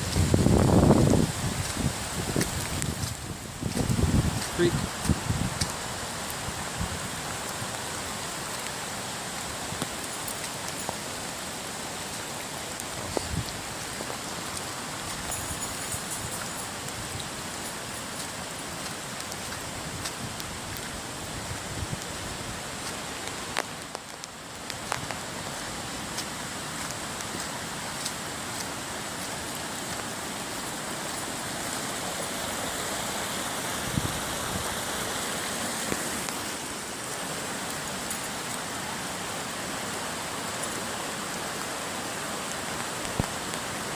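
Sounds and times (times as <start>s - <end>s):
flooded creek rushing: 0.0s - 43.9s
heavy rain hissing: 0.0s - 43.9s.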